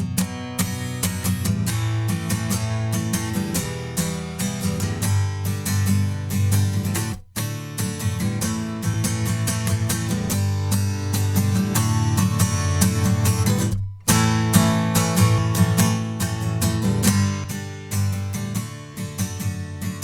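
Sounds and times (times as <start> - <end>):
strummed acoustic guitar music: 0.0 - 20.0.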